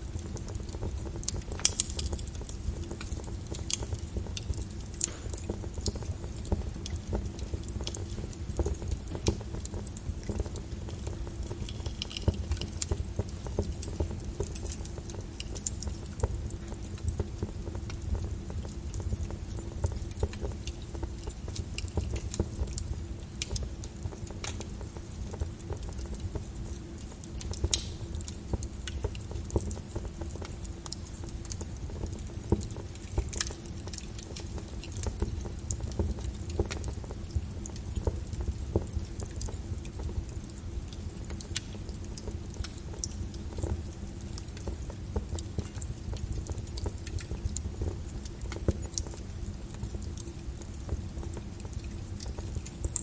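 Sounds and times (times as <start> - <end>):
pops and snaps of burning wood: 0.0 - 53.0
wood fire crackling: 0.0 - 53.0.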